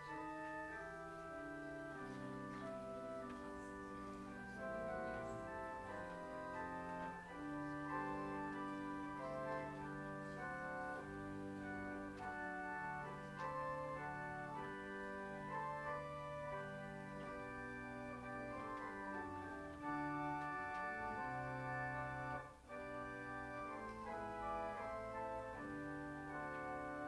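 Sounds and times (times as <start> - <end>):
church organ chords: 0.0 - 27.0.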